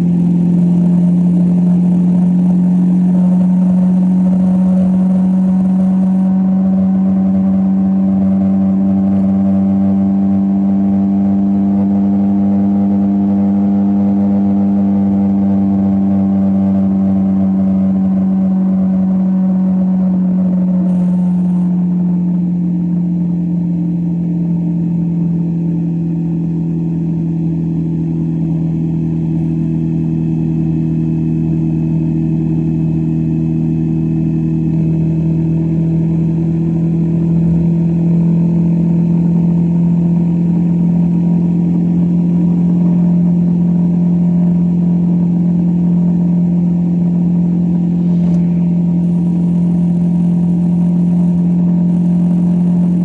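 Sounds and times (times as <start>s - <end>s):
road and wind noise: 0.0s - 25.2s, 26.9s - 53.0s
motorcycle engine cruising: 0.0s - 53.0s.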